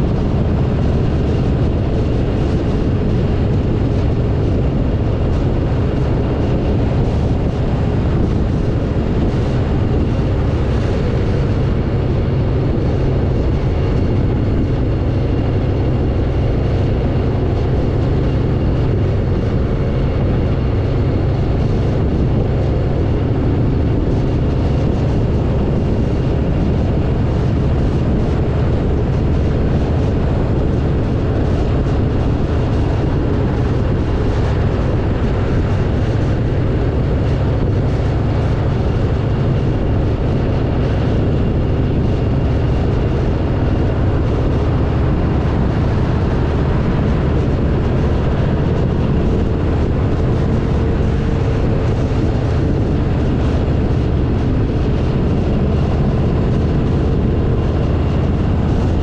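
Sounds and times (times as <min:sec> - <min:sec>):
motorcycle engine drone: 0:00.0 - 0:59.0
wind and road noise: 0:00.0 - 0:59.0.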